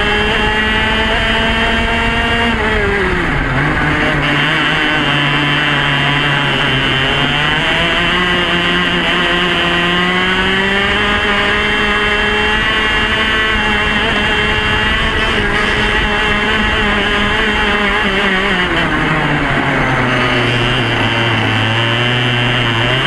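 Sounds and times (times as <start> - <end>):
kart engine revving high: 0.0 - 23.0.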